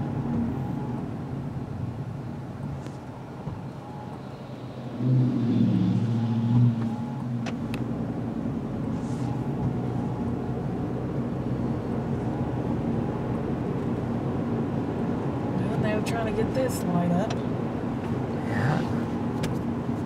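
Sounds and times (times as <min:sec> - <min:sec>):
car interior road noise: 0:00.0 - 0:20.0
passing vehicle engine: 0:03.6 - 0:20.0.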